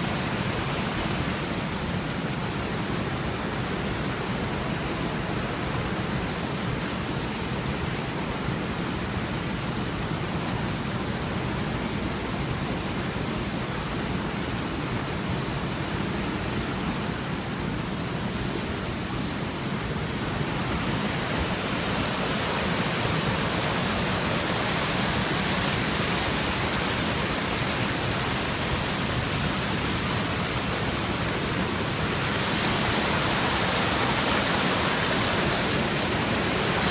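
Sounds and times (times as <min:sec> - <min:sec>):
river water rushing over weir: 0:00.0 - 0:36.9.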